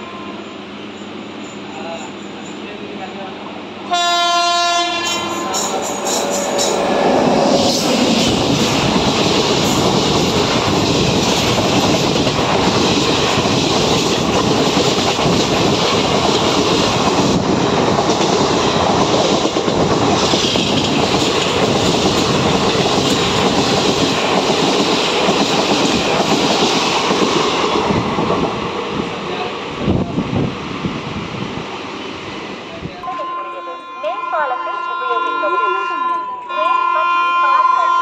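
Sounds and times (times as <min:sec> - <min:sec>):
train passing at high speed: 0:00.0 - 0:38.0.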